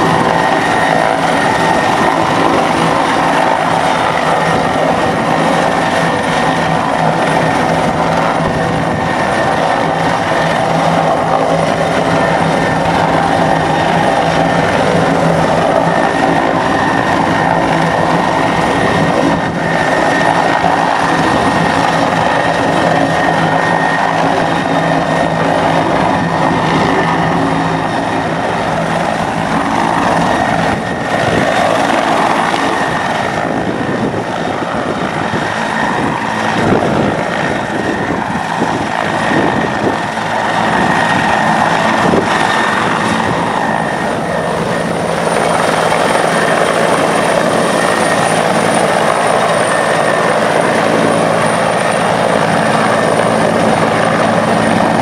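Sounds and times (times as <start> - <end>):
helicopter rotor and turbine: 0.0 - 55.0.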